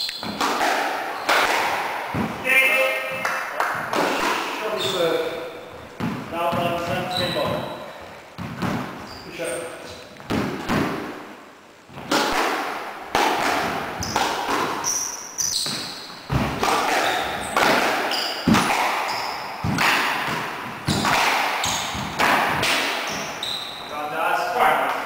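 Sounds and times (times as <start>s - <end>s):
squash ball cracking off rackets and walls: 0.0s - 2.5s, 3.6s - 7.6s, 8.3s - 9.1s, 10.2s - 23.5s
shoes squeaking on floor: 0.0s - 10.8s, 13.7s - 24.2s.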